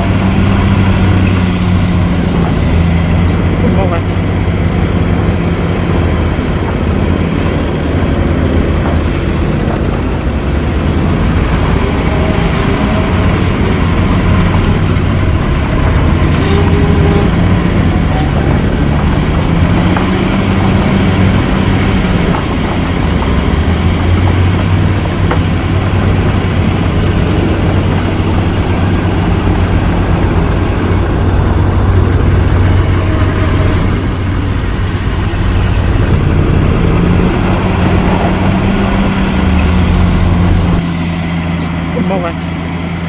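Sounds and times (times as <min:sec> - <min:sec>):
diesel engine running under load: 0:00.0 - 0:43.0.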